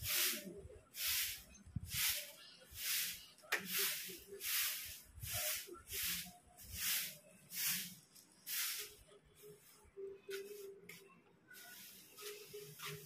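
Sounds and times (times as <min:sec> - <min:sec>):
broom sweeping concrete: 0:00.0 - 0:11.0, 0:11.6 - 0:13.0.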